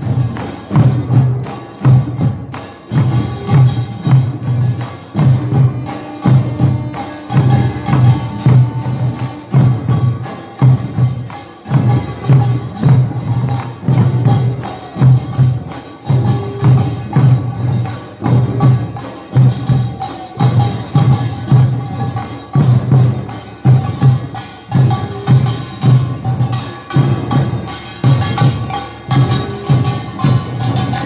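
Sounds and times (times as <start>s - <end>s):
drums beating rhythm: 0.0s - 31.0s.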